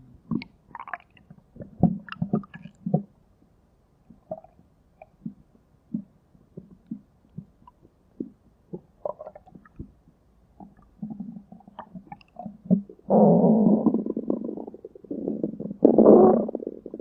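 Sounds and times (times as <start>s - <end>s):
stomach rumbling: 0.0s - 3.2s, 4.1s - 17.0s
stomach gurgles and pops: 0.2s - 3.2s, 4.1s - 17.0s.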